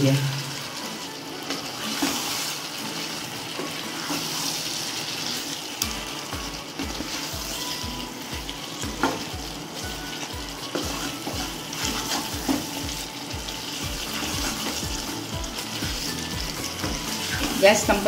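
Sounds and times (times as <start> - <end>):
chicken sizzling in wok: 0.0 - 18.0.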